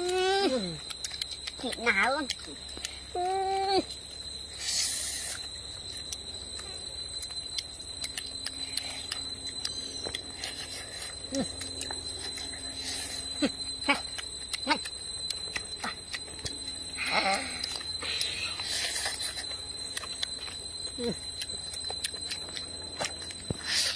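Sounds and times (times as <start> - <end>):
wet chewing and lip-smacking: 0.0 - 17.0, 17.6 - 23.9
steady high-pitched tone: 0.0 - 23.9.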